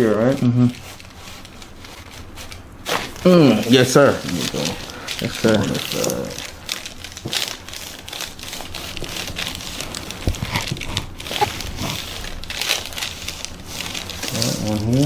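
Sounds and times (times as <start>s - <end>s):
clothing and table cover rustling: 0.0s - 15.0s.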